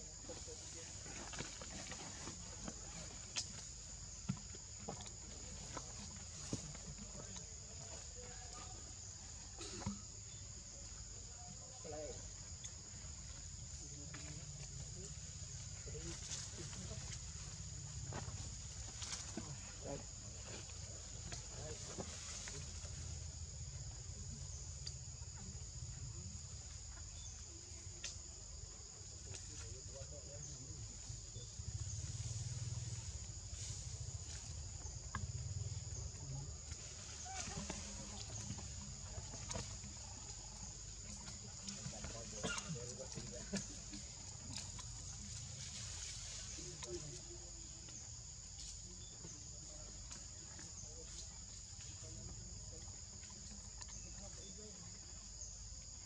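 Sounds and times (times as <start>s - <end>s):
insect chorus chirring: 0.0s - 56.0s.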